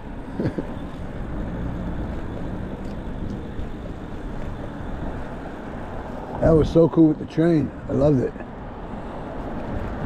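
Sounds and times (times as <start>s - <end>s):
road and traffic noise: 0.0s - 10.0s.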